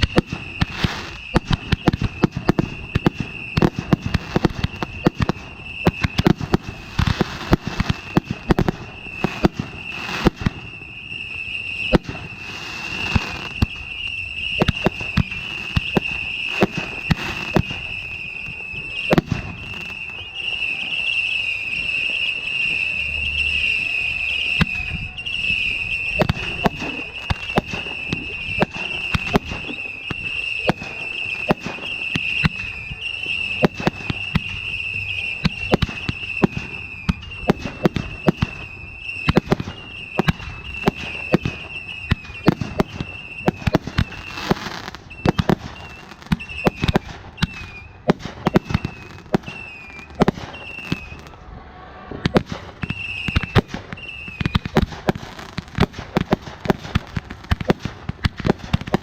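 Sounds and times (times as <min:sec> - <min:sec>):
fireworks pops and bangs: 0:00.0 - 0:51.4, 0:52.1 - 0:59.0
high wavering whistle: 0:00.0 - 0:57.6.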